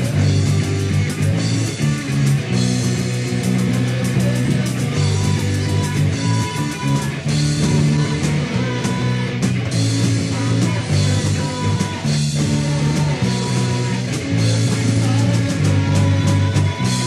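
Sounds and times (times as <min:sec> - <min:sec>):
bass guitar riffing: 0:00.0 - 0:17.0
drums: 0:00.0 - 0:17.0
electric guitar riffing: 0:00.0 - 0:17.0.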